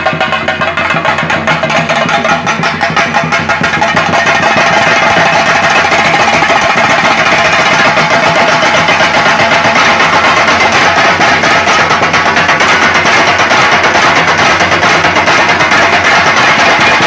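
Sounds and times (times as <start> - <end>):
drums beaten fast with sticks: 0.0 - 17.0.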